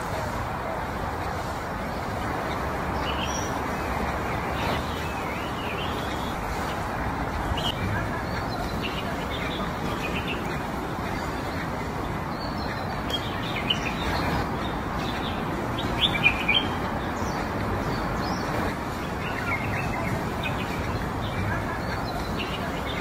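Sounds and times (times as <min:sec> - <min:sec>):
small birds chirping: 0:00.0 - 0:23.0
steady background hiss: 0:00.0 - 0:23.0.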